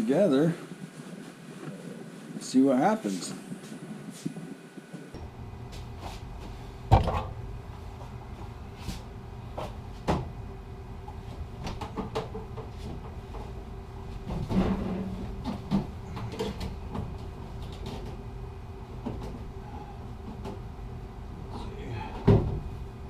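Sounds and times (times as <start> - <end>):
low hum: 3.4 - 23.0.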